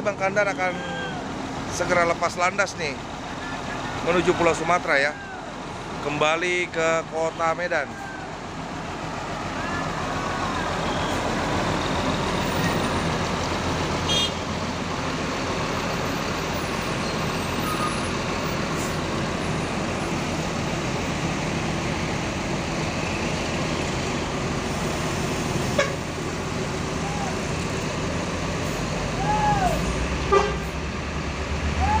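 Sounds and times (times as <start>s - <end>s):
diesel bus engine idling: 0.0s - 32.0s.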